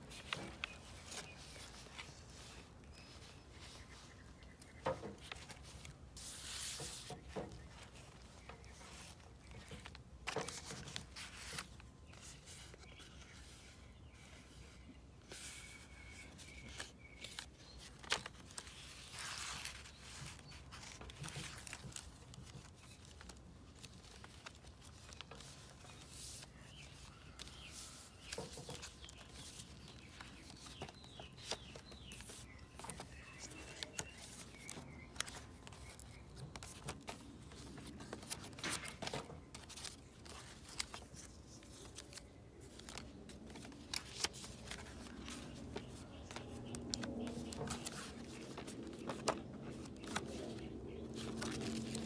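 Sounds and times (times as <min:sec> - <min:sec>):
paper pages rustling: 0:00.0 - 0:52.0.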